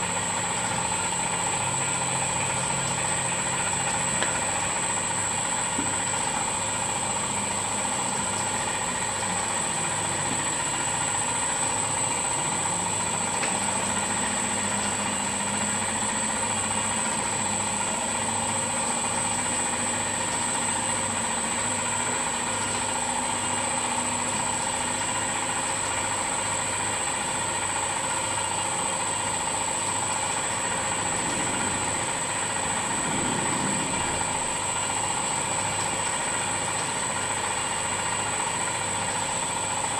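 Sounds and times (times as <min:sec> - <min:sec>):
grinder running with high whine: 0:00.0 - 0:39.9.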